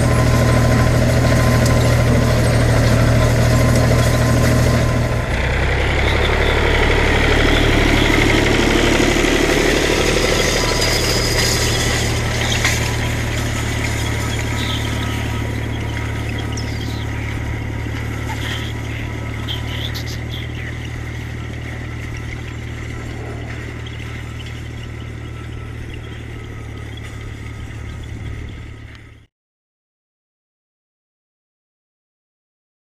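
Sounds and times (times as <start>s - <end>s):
tractor diesel engine running: 0.0s - 29.3s.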